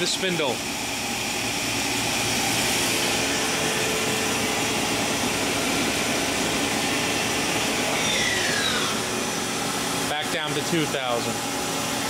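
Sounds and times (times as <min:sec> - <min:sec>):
machine spindle whirring: 0:00.0 - 0:12.0.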